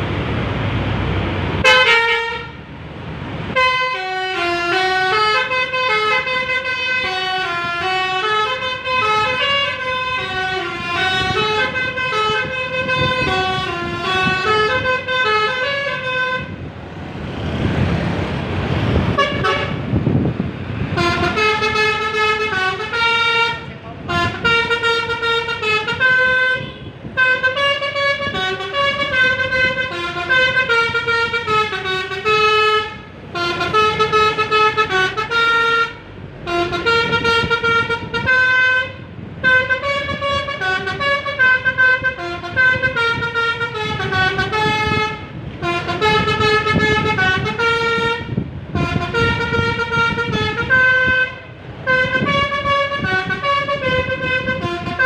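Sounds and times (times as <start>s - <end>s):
bus musical horn playing melodies: 1.6s - 2.7s, 3.4s - 16.7s, 19.0s - 55.0s.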